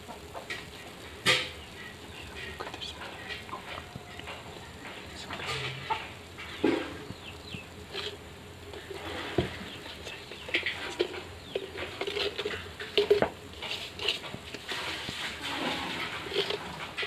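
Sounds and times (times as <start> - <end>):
tea boiling in a saucepan: 0.0 - 17.0.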